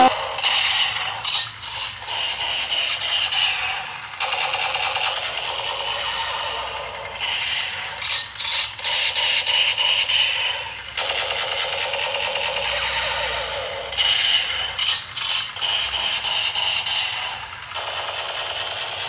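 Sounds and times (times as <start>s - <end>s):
toy gun electronic buzz: 0.0s - 19.0s.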